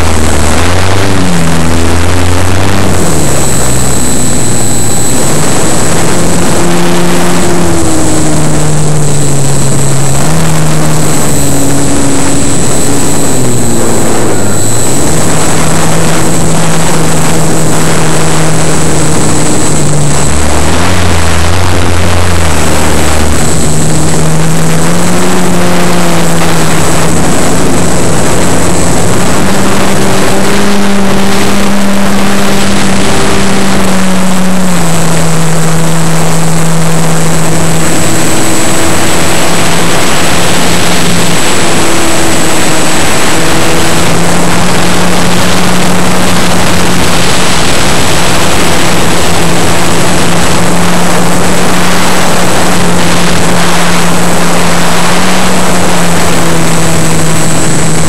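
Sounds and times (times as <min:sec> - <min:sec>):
model airplane motor and propeller: 0:00.0 - 0:58.0
wind rush: 0:00.0 - 0:58.0.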